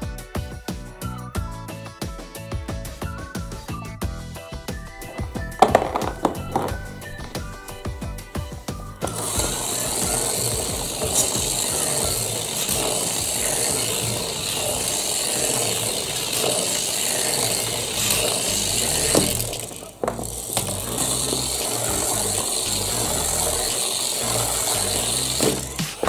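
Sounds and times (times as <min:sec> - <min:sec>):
small electric motor whirring: 0:04.7 - 0:26.0.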